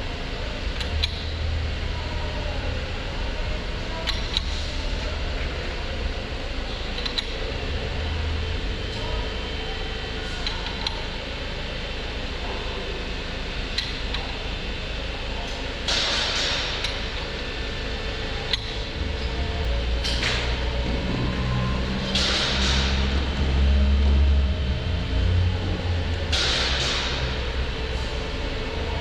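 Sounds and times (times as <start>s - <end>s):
workshop background hum: 0.0s - 29.0s.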